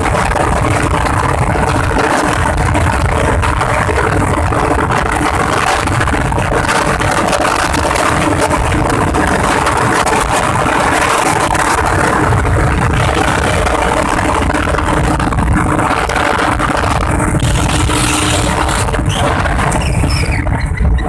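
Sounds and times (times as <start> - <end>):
small motorcycle engines roaring: 0.0 - 21.0.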